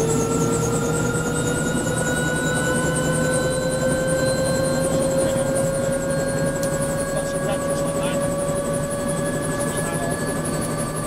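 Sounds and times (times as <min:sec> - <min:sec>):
helicopter turbine whine: 0:00.0 - 0:11.0
high rotor pulsing: 0:00.0 - 0:11.0.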